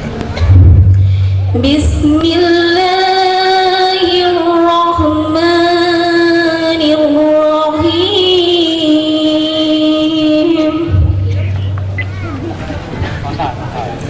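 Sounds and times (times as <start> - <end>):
woman reciting melodically: 0.4 - 12.4.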